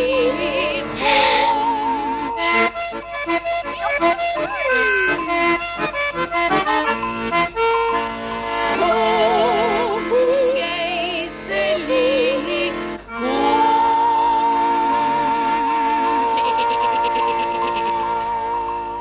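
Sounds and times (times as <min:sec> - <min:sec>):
accordion music: 0:00.0 - 0:19.0.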